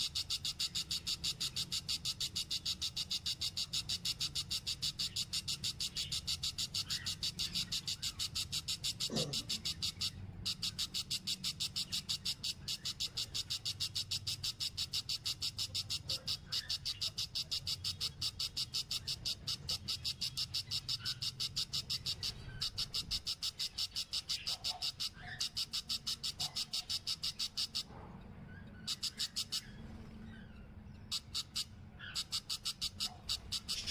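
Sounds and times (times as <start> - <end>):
animal rapid chirping call: 0.0 - 27.9, 28.8 - 30.1, 31.0 - 33.9.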